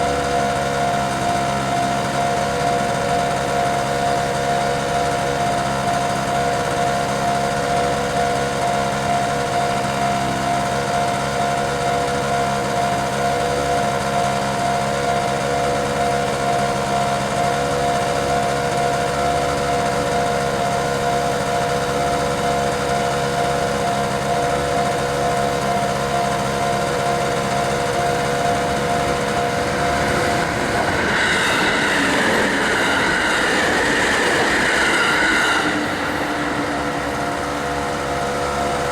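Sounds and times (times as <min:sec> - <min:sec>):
level crossing warning bell: 0:00.0 - 0:38.9
train wheels on rails: 0:00.0 - 0:38.9.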